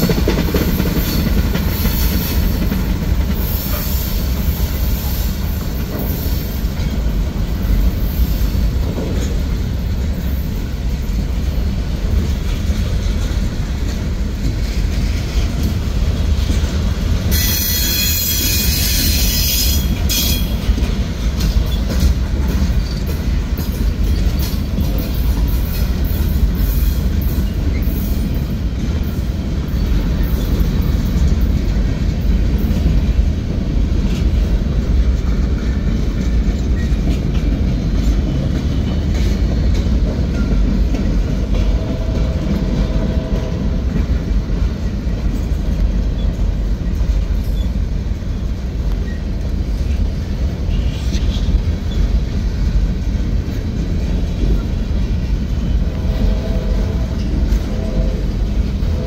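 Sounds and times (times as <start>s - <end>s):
clicks of wheels on rails: 0.0s - 59.0s
freight train rolling past: 0.0s - 59.0s.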